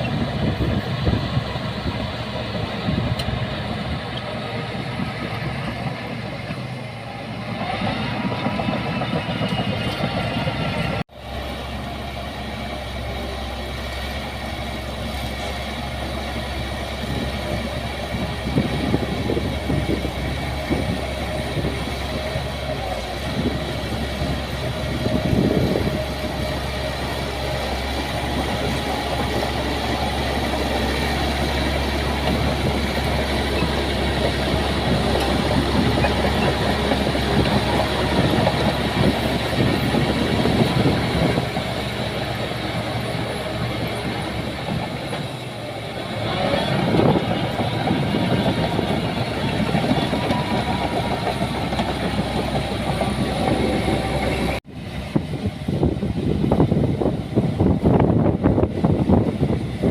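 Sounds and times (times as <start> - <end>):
diesel earthmoving machinery: 0.0 - 59.9.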